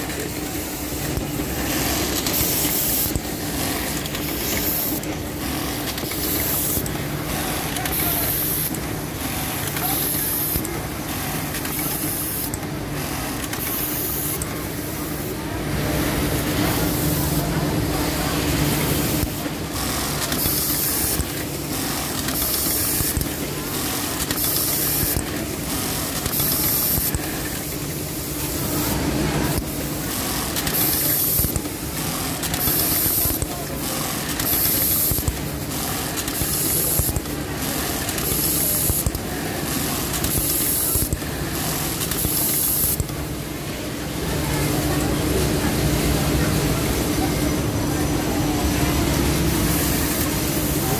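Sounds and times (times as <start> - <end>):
sewing machine humming: 0.0 - 50.9.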